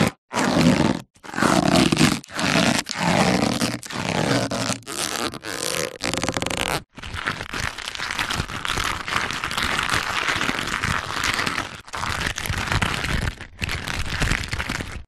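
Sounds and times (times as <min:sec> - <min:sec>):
cartoon rubber stretching: 0:00.0 - 0:15.0.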